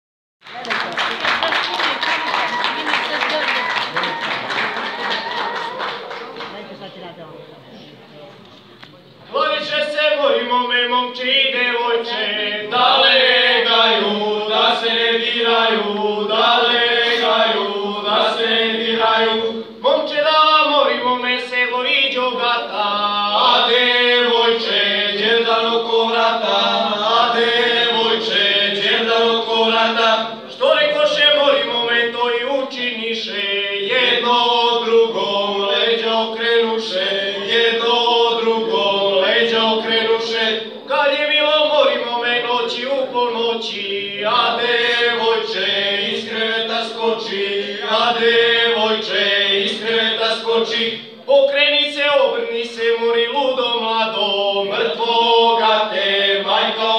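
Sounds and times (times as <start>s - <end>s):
men's group singing together: 9.4s - 56.9s.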